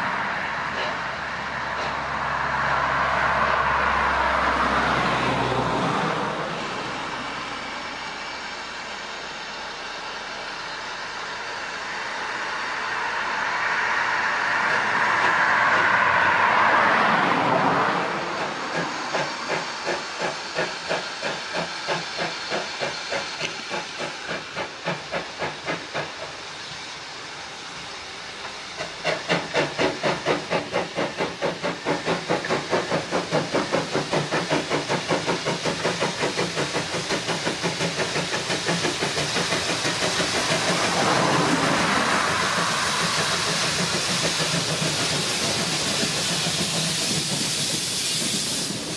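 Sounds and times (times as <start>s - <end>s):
steam hissing: 0.0s - 48.9s
steam locomotive exhaust beats: 0.0s - 48.9s.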